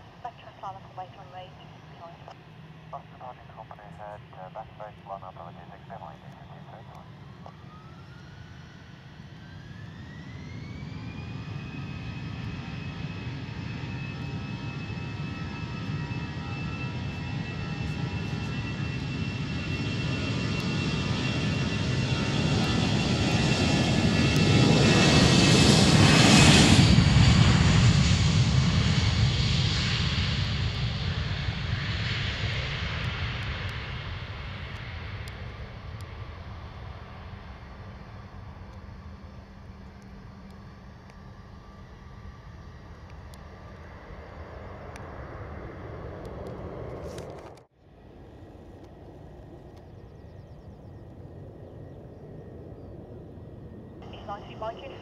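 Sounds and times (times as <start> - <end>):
jet engines on take-off: 0.0 - 55.0.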